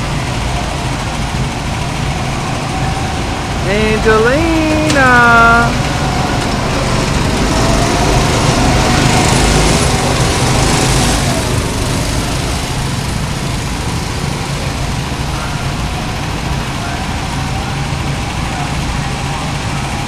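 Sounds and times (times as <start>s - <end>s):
go-kart engines running: 0.0s - 20.0s
road noise: 0.0s - 20.0s.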